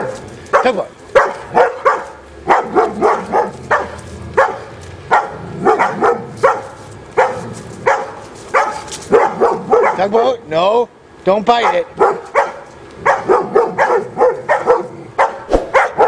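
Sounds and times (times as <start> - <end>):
dog barking: 0.0 - 10.2, 11.6 - 16.0.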